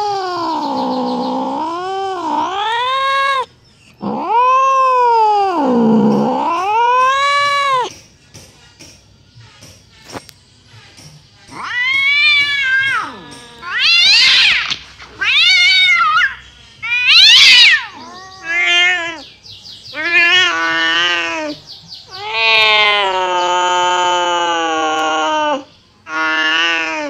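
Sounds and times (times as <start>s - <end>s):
cat yowling: 0.0s - 7.9s, 11.5s - 19.3s, 19.9s - 27.0s.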